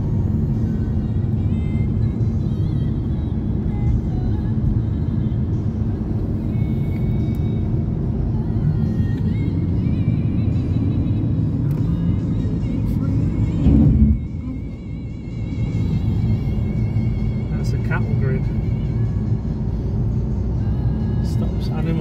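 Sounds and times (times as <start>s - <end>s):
car road and engine rumble: 0.0s - 22.0s
music playing: 0.0s - 22.0s.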